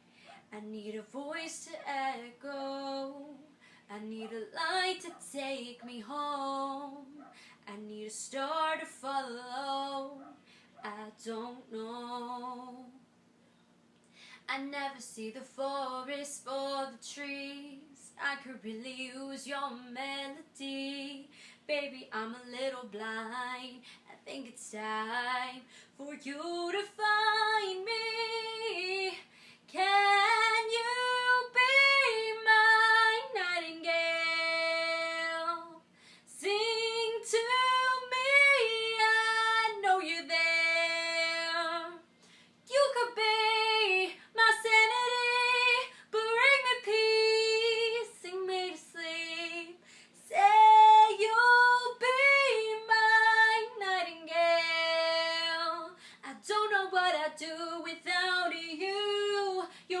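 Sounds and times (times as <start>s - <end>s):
woman singing pop ballad: 0.5s - 10.2s, 10.8s - 13.0s, 14.4s - 42.0s, 42.6s - 60.0s.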